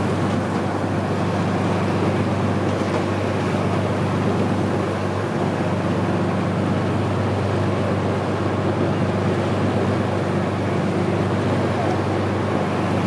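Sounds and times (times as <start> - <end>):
motor boat engine running: 0.0 - 13.0.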